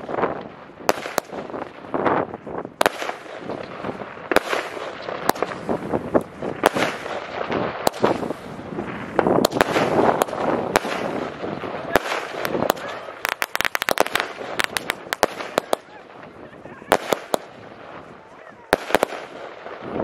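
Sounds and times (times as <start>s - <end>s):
firework bangs: 0.0s - 20.0s
firework hissing and crackling: 0.0s - 20.0s.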